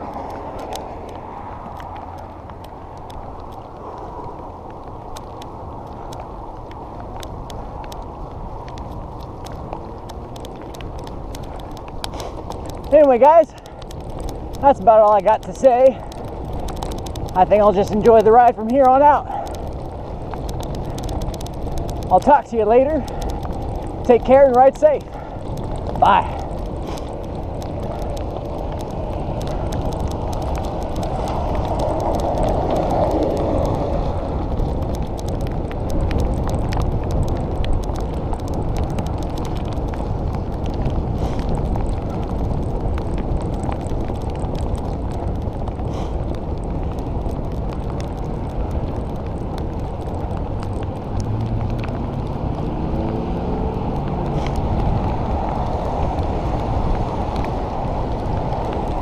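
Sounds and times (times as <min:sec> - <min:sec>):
bicycle tyres on wet road: 0:00.0 - 0:59.0
wind on microphone: 0:00.0 - 0:59.0.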